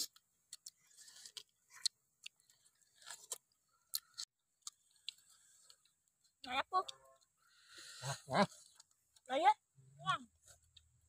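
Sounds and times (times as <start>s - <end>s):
people chewing: 0.0s - 9.2s, 10.4s - 11.0s.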